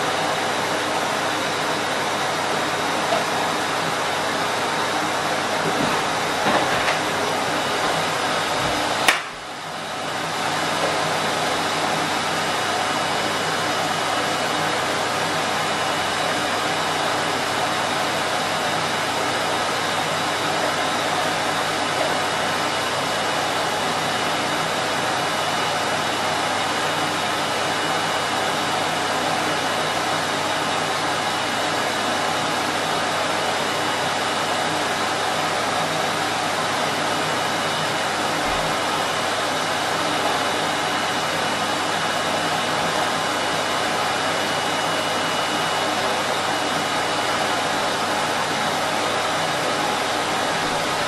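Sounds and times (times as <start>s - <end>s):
vacuum cleaner motor running: 0.0s - 51.0s.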